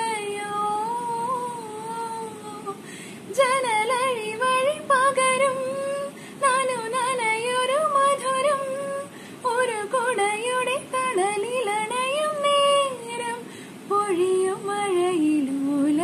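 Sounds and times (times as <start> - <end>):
woman singing solo: 0.0 - 16.0.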